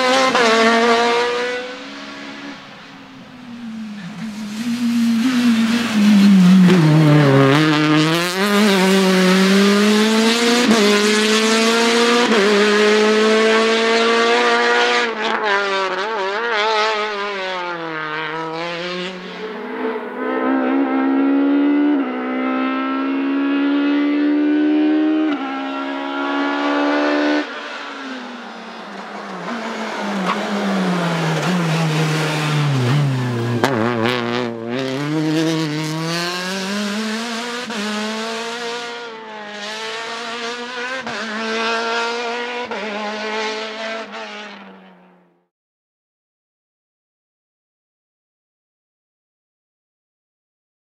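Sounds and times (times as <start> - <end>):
rally car engine revving through gears: 0.0 - 44.7.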